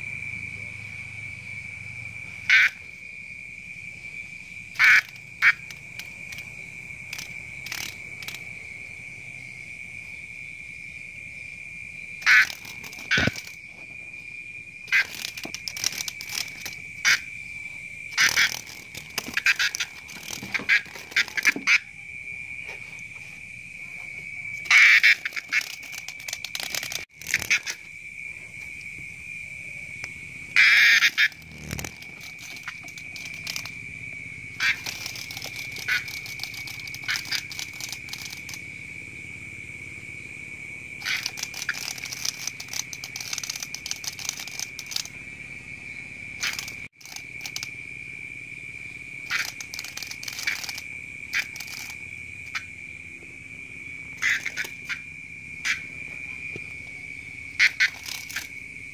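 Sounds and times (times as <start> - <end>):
high-pitched insect trill: 0.0 - 58.9.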